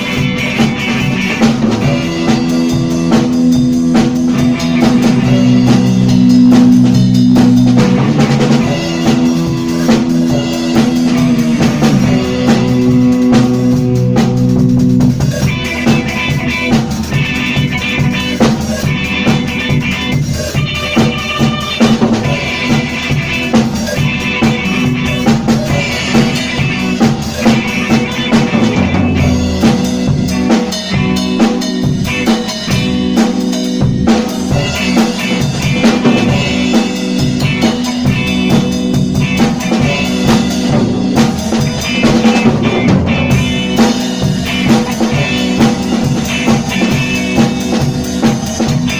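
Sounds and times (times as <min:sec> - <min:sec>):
drum kit playing busy beat: 0:00.0 - 0:48.9.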